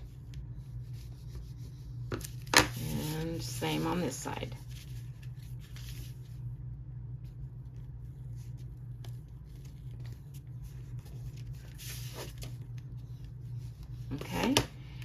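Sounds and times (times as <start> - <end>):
paper rustling and creasing: 0.0 - 6.6, 7.2 - 14.6
steady low hum: 0.0 - 15.0.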